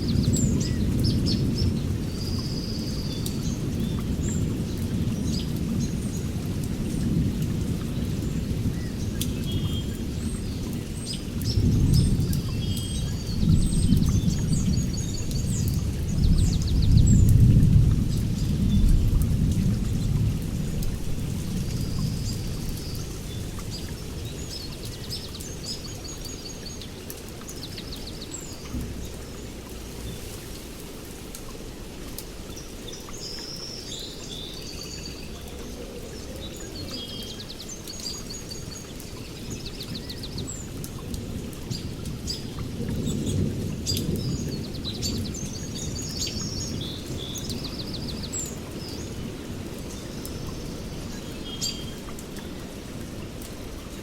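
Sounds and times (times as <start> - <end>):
rain falling on foliage: 0.0 - 54.0
songbirds chirping: 0.0 - 54.0.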